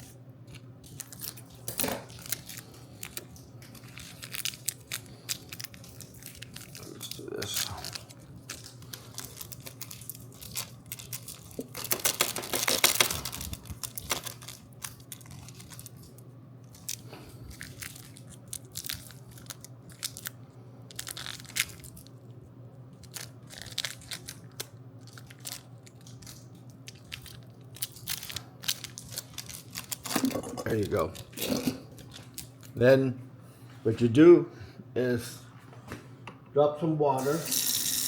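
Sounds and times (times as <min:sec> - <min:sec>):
plastic packaging crinkling: 0:00.0 - 0:22.3, 0:22.9 - 0:32.8
faint steady hum: 0:00.0 - 0:38.0.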